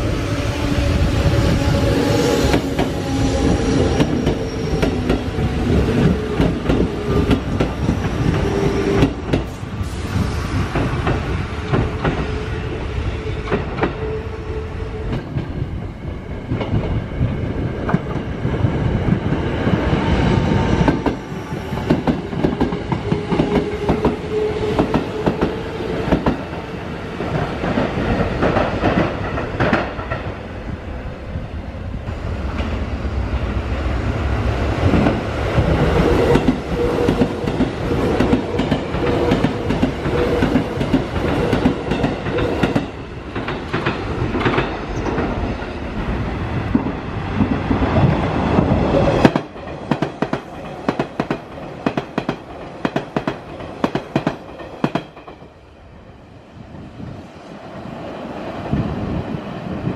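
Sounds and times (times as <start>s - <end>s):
train whine: 0.0s - 59.9s.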